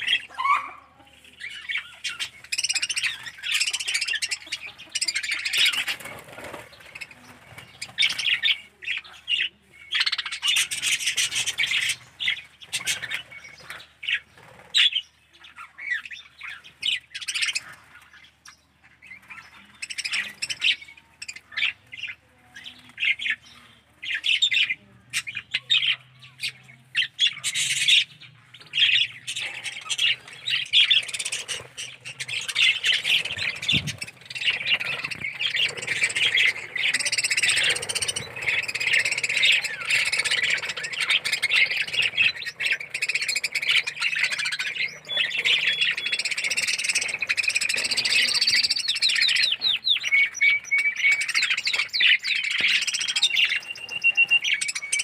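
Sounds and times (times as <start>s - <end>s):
budgerigars chattering: 0.0s - 55.0s.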